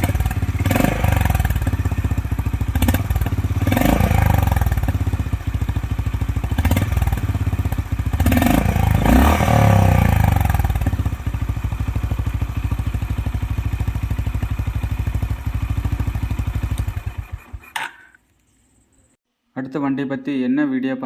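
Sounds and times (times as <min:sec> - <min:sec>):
motorcycle engine idling and revving: 0:00.0 - 0:18.2.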